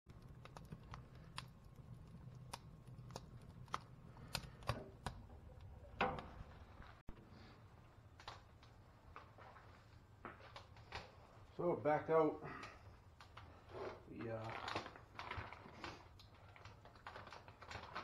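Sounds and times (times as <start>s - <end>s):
low steady hum: 0.1s - 18.0s
wood fire crackling and popping: 0.1s - 18.0s.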